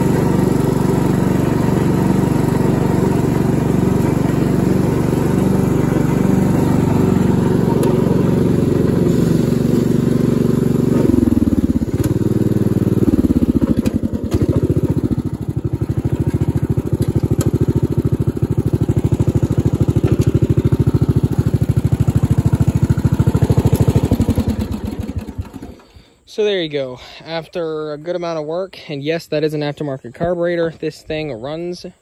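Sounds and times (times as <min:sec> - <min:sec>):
mower engine idling: 0:00.0 - 0:32.0.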